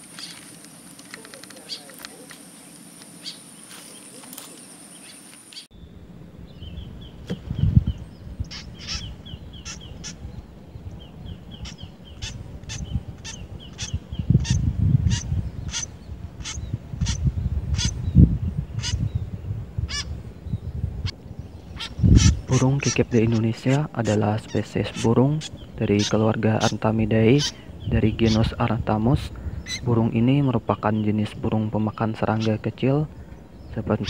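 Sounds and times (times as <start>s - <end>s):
birds calling harsh notes: 0.0s - 34.0s
faint bird chirps: 1.1s - 28.7s
wind buffeting microphone: 5.8s - 34.0s.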